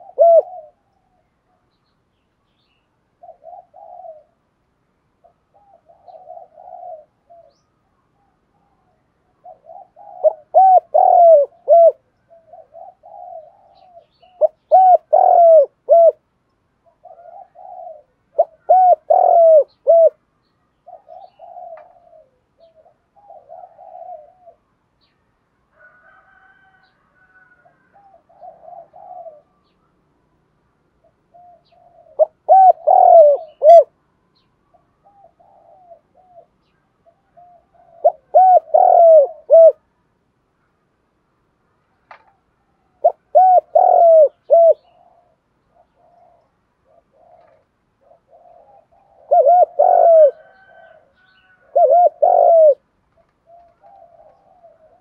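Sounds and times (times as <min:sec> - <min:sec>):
dove cooing: 0:00.0 - 0:01.7, 0:03.1 - 0:04.5, 0:05.2 - 0:24.7, 0:25.8 - 0:29.8, 0:30.9 - 0:39.9, 0:42.1 - 0:55.0
faint dove coos: 0:00.0 - 0:01.8, 0:03.0 - 0:04.6, 0:05.2 - 0:25.1, 0:25.7 - 0:30.1, 0:30.9 - 0:39.9, 0:41.9 - 0:55.0.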